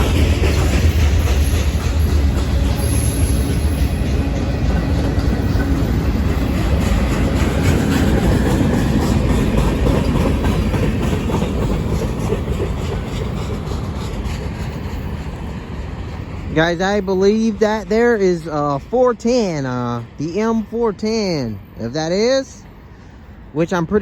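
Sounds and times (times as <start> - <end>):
clickety-clack over rail joints: 0.0 - 24.0
train wheels rumbling: 0.0 - 24.0.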